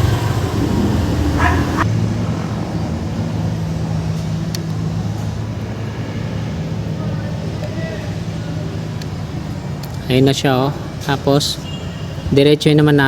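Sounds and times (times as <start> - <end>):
vehicle engines humming: 0.0 - 13.0.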